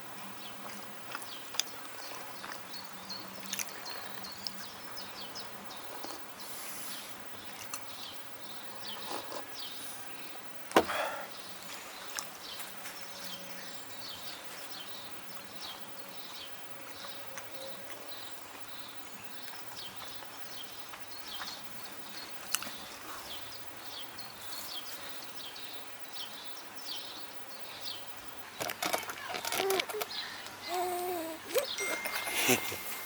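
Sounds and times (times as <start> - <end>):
bird chirping: 0.0 - 10.4, 11.1 - 33.0
faint background noise: 0.0 - 33.0.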